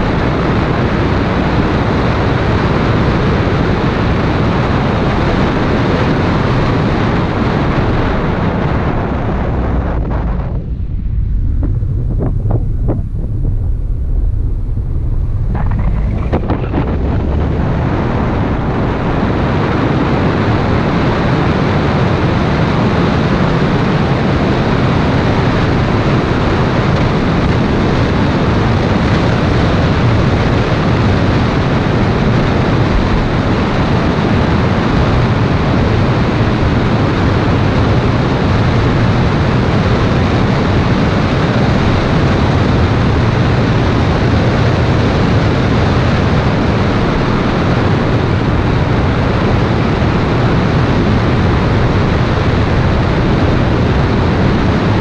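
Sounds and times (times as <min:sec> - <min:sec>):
car road and engine rumble: 0:00.0 - 0:55.0
wind rushing over microphone: 0:00.0 - 0:55.0.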